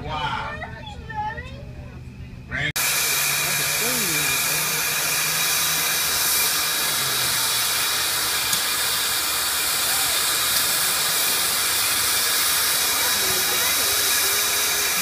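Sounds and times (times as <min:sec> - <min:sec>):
steam hissing: 0:02.8 - 0:15.0.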